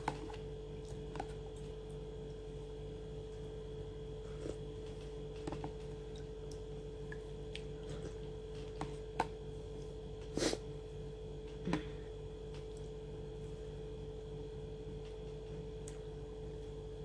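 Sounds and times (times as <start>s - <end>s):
soft chewing: 0.0s - 13.8s
steady low hum: 0.0s - 17.0s.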